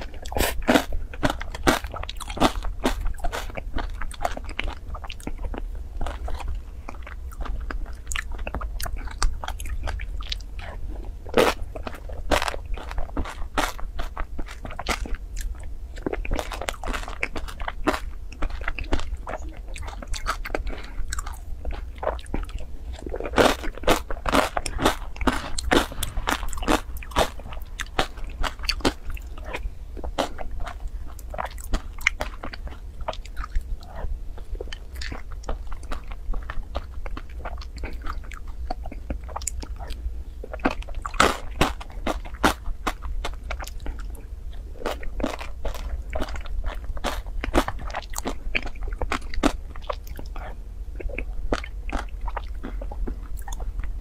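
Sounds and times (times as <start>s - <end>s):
wet chewing: 0.0s - 54.0s.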